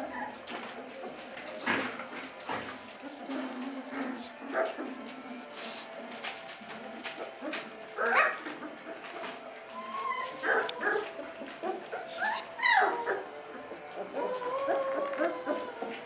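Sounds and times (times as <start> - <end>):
puppies yelping and whimpering: 0.0 - 16.0.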